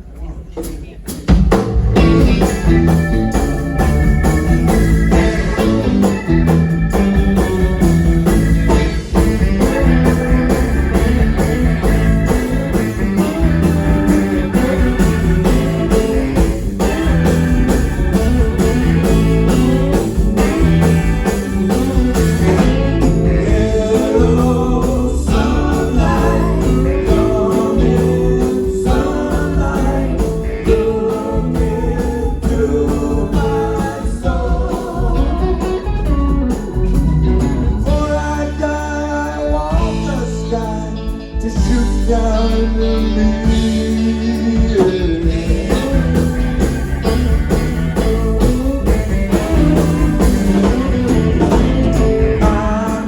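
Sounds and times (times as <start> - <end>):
steady drum beat: 0.0 - 40.4, 43.4 - 53.0
live band playing: 0.0 - 53.0.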